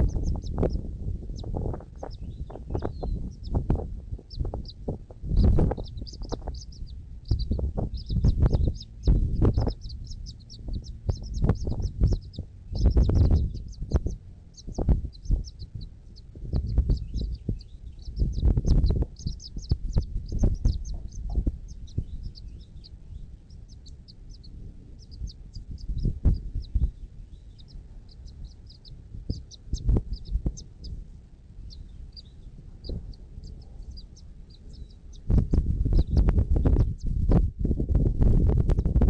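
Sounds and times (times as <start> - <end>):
loud low thumps and rumbles: 0.0 - 31.2, 31.8 - 39.0
small birds chirping: 0.0 - 39.0.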